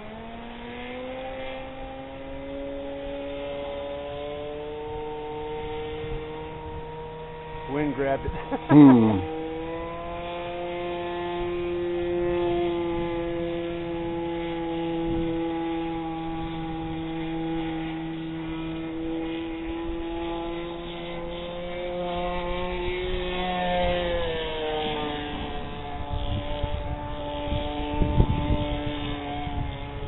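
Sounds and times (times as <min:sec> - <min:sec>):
model airplane engine drone: 0:00.0 - 0:30.0.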